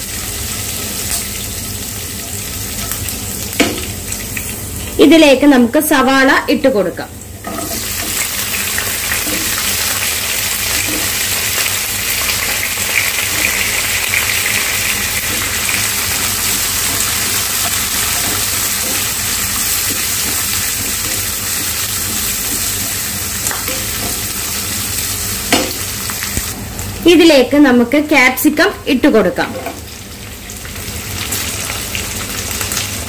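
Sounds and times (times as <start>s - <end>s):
onions sizzling in oil: 0.0s - 27.2s, 28.4s - 33.0s.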